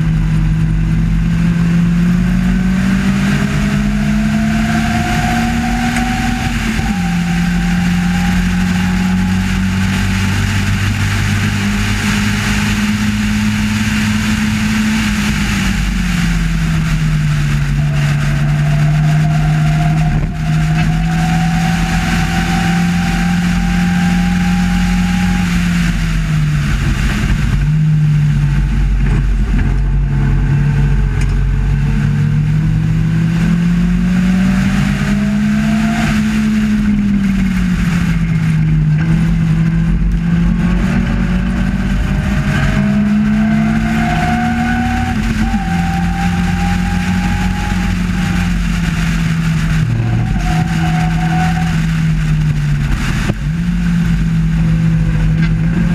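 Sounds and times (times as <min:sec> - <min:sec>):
racing car engine revving: 0:00.0 - 0:55.9
steady rushing noise: 0:00.0 - 0:55.9.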